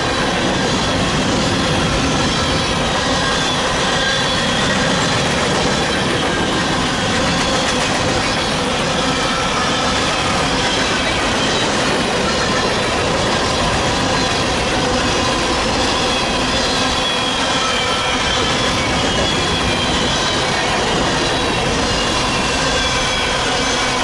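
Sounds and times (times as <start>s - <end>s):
high wheel squeal: 0.0s - 24.0s
train wheels rumbling on rail: 0.0s - 24.0s.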